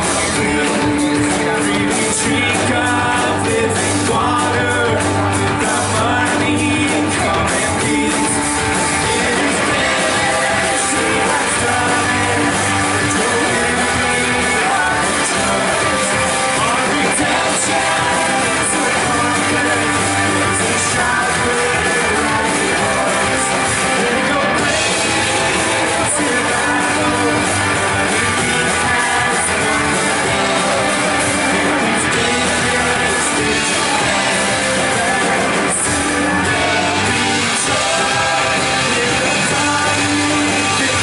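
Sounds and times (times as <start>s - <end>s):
live rock band with singing: 0.0s - 41.0s.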